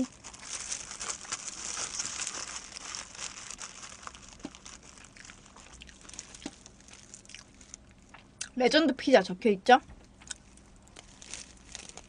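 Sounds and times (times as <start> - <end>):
plastic glove crinkling: 0.0 - 8.2, 10.4 - 12.0.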